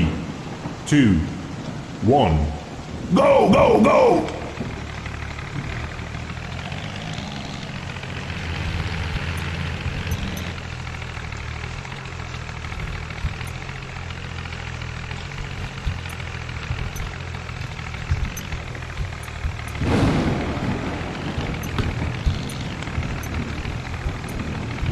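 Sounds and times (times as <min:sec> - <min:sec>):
tractor diesel engine running: 0:02.6 - 0:24.9.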